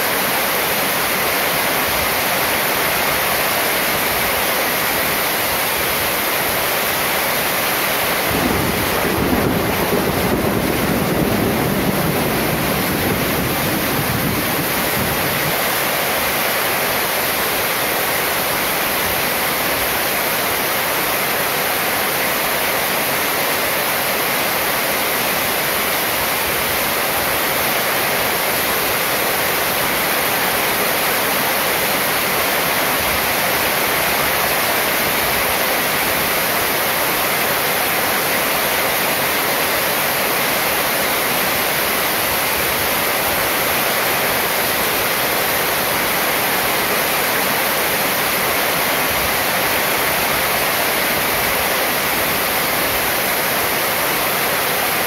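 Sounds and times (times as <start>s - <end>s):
heavy rain on metal roof: 0.0s - 55.0s.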